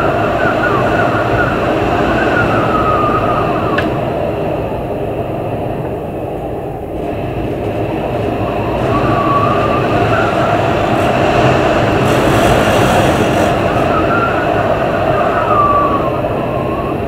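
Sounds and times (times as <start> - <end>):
faint high wind whistle: 0.0 - 17.0
storm wind gusting: 0.0 - 17.0.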